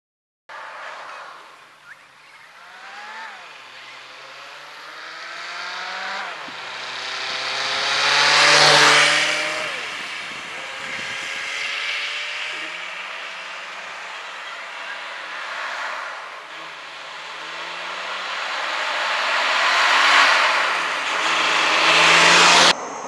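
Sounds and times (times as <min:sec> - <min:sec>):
tyre and road noise: 0:00.5 - 0:23.0
vehicle engine accelerating: 0:00.5 - 0:23.0.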